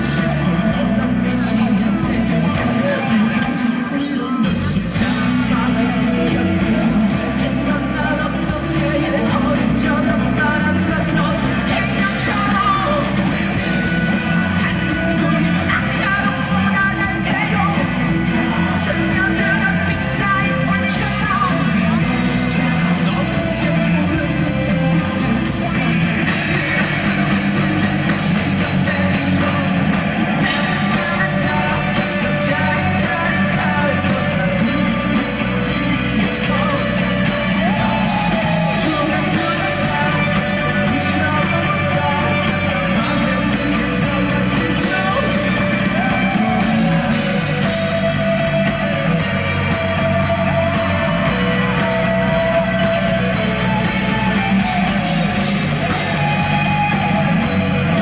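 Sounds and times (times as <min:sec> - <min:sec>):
bass guitar: 0:00.0 - 0:58.0
drums: 0:00.0 - 0:58.0
electric guitars: 0:00.0 - 0:58.0
man singing and shouting: 0:00.0 - 0:58.0.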